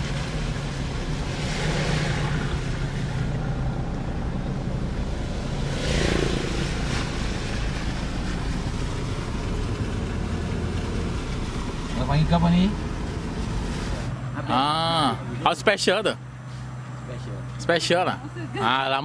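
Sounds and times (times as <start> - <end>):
rush of water noise: 0.0 - 15.7
car engine and road rumble: 0.0 - 19.0.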